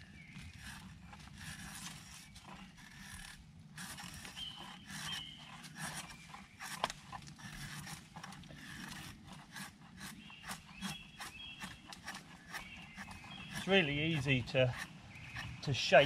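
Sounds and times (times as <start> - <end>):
knife shaving wood: 0.0 - 16.0.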